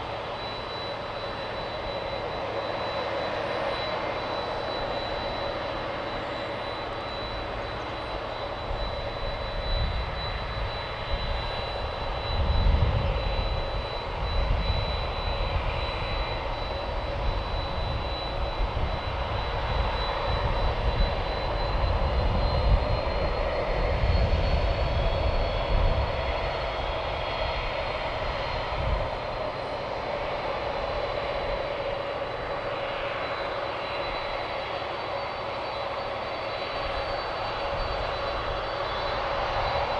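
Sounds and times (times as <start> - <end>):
jet engines idling with whine: 0.0 - 39.9.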